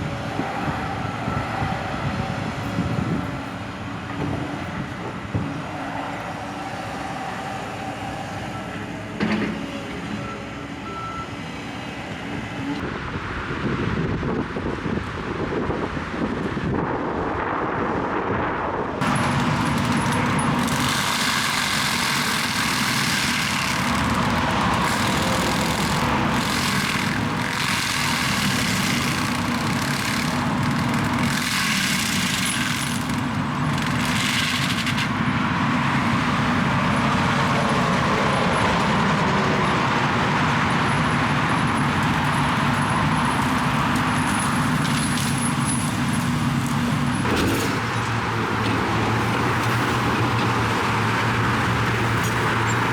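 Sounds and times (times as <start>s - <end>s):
heavy machinery diesel engine: 0.0s - 13.4s, 19.0s - 52.9s.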